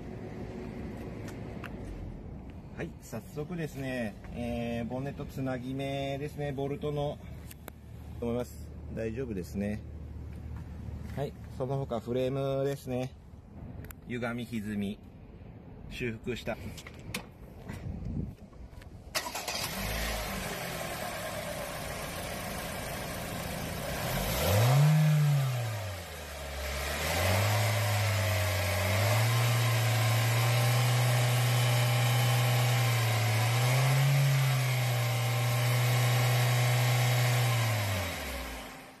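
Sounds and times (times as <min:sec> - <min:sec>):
car engine idling and revving: 0:00.0 - 0:11.7, 0:16.8 - 0:39.0.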